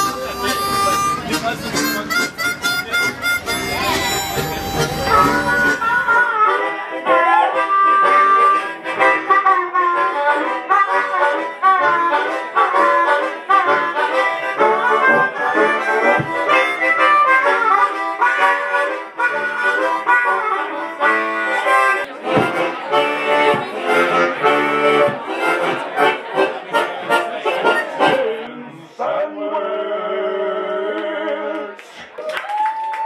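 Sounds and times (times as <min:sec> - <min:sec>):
harmonica melody with bent notes: 0:00.0 - 0:28.5
chord harmonica rhythm: 0:00.0 - 0:28.6.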